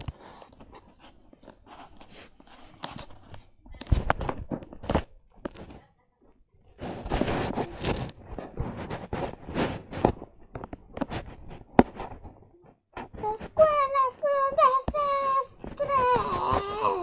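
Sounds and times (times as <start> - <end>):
fabric rustling and rubbing: 0.0 - 5.9, 6.6 - 17.0.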